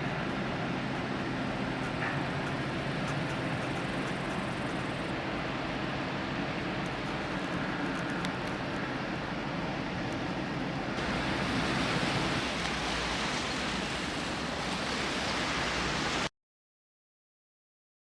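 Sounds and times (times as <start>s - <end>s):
rushing water: 0.0s - 16.3s
wind: 0.0s - 16.3s.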